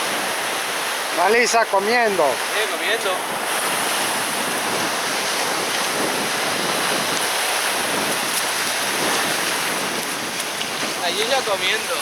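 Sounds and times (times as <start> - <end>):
sea surf rushing: 0.0 - 12.0.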